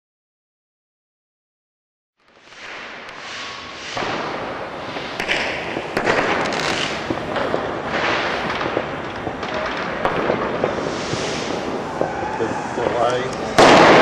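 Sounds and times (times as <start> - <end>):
fireworks and firecrackers crackling: 2.2 - 14.0
sharp firework bangs: 2.2 - 14.0.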